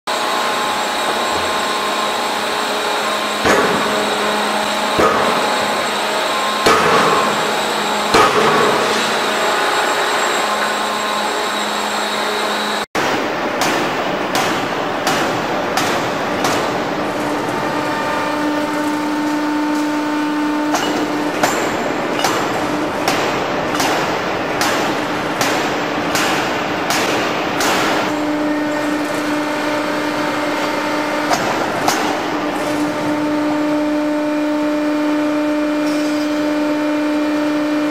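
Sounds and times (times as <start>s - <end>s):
steady machine hum: 0.1s - 37.9s
forging hammers striking steel: 1.0s - 11.9s, 13.0s - 33.7s.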